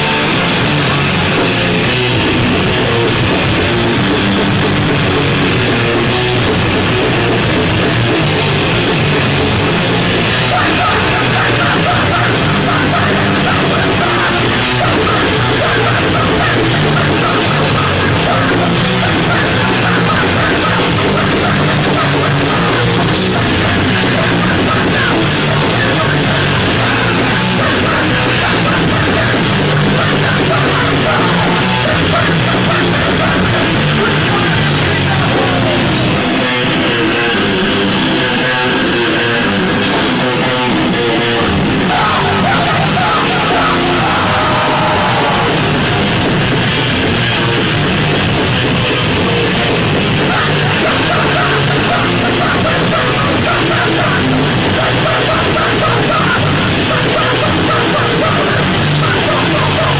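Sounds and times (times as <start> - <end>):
bass guitar: 0.0 - 59.9
distorted electric guitar: 0.0 - 59.9
drum kit: 0.0 - 59.9
yelled vocals: 0.0 - 59.9.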